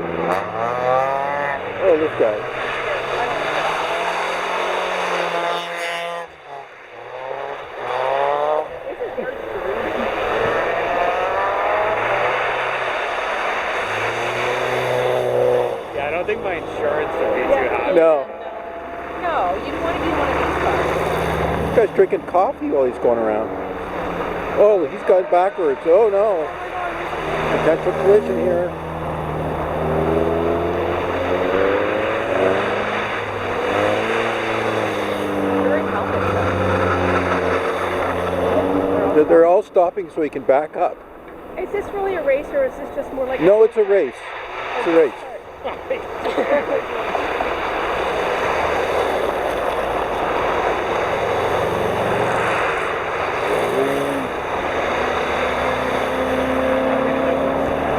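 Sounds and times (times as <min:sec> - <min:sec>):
engine revving: 0:00.0 - 0:57.9
racing car engines: 0:00.0 - 0:57.9
steady rushing noise: 0:08.6 - 0:57.9.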